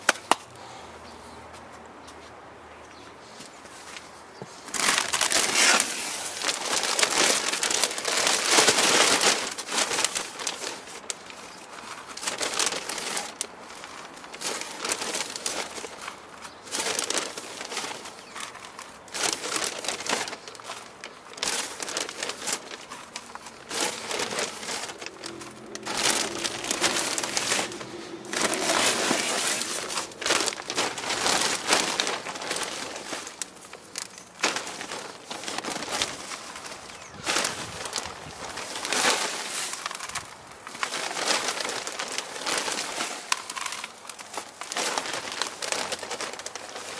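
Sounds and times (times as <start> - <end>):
soil rustling: 4.4 - 46.9
plastic bag crinkling: 4.6 - 46.9.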